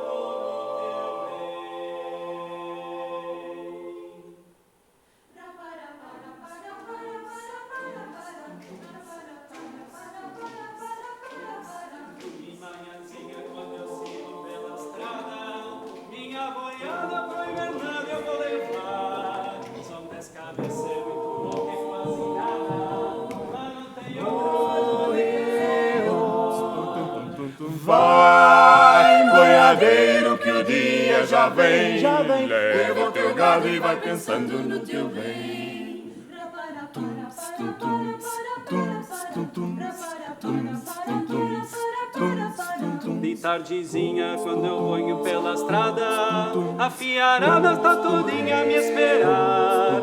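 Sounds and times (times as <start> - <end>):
a cappella vocal ensemble singing: 0.0 - 50.0.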